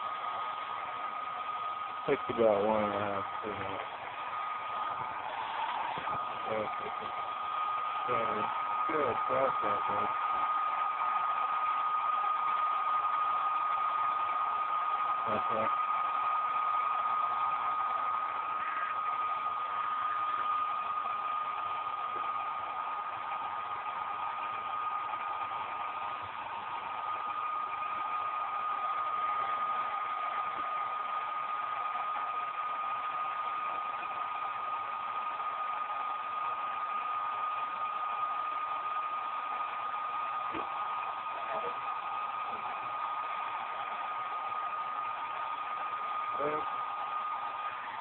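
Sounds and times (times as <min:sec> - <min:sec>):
hair dryer running: 0:00.0 - 0:48.0.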